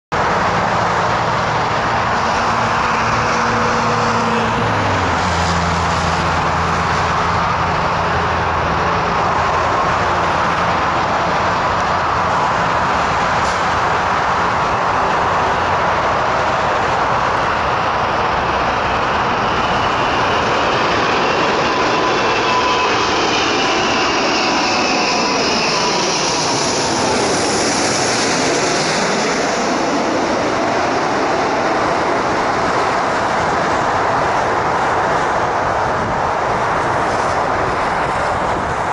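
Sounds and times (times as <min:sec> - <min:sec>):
jet engine roar: 0:00.1 - 0:38.9
whining engine tones: 0:00.2 - 0:34.8.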